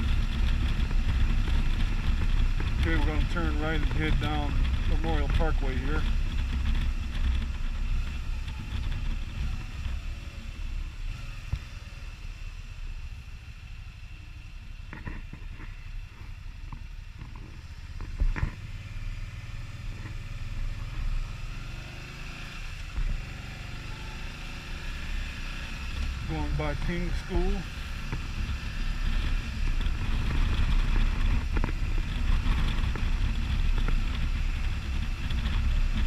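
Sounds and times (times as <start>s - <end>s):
motorcycle engine and road rumble: 0.0s - 36.0s.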